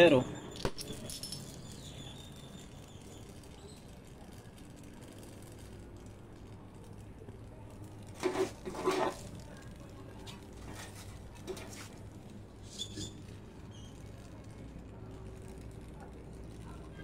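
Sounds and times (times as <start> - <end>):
welding torch flame hissing: 1.6 - 17.0.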